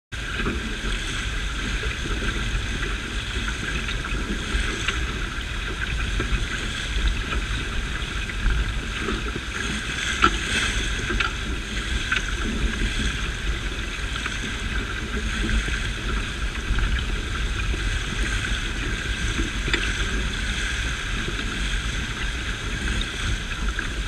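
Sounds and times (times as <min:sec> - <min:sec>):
water rushing along a hull: 0:00.1 - 0:24.0
wind buffeting microphone: 0:00.2 - 0:24.0.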